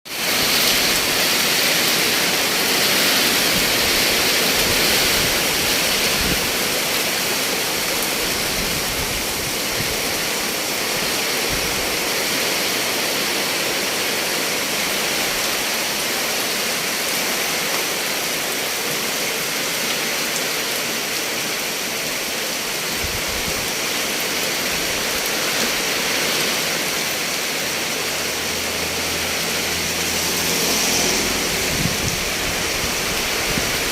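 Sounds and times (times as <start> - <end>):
heavy rain in wind: 0.1 - 33.9.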